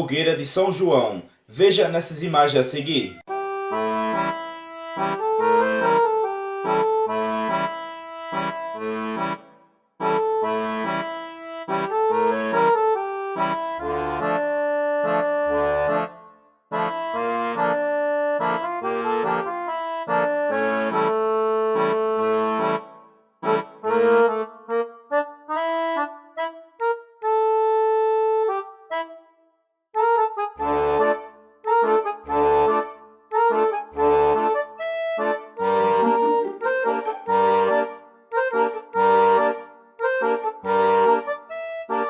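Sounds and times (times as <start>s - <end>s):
accordion music: 0.0s - 42.0s.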